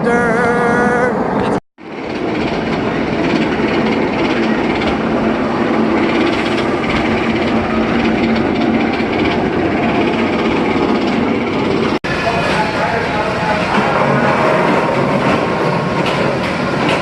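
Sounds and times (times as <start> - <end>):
roller coaster train on track: 0.0 - 17.0.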